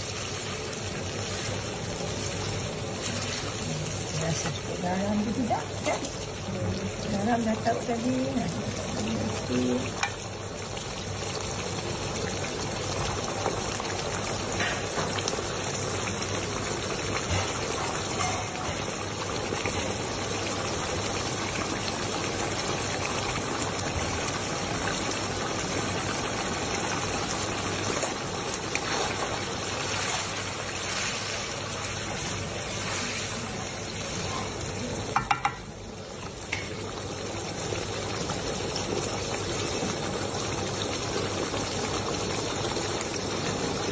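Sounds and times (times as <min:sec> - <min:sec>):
sauce sizzling and bubbling: 0:00.0 - 0:43.9.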